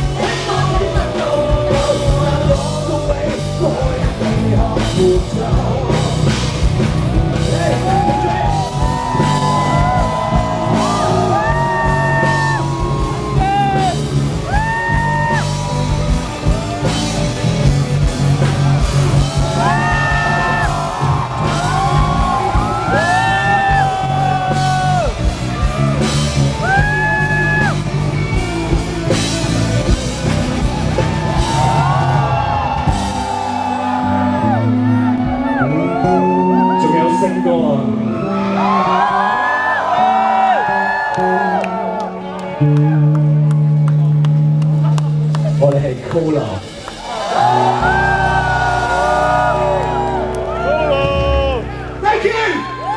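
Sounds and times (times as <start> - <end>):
bending lead guitar notes: 0.0 - 52.9
rock band playing live: 0.0 - 52.9.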